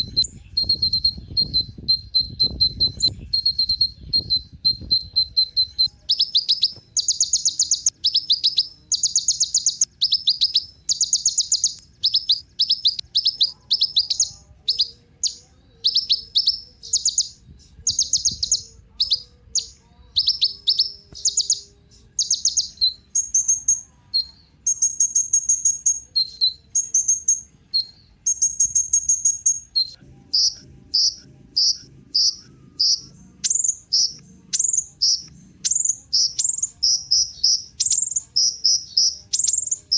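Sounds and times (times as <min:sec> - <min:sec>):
sunbird chips and trills: 0:00.0 - 0:39.9.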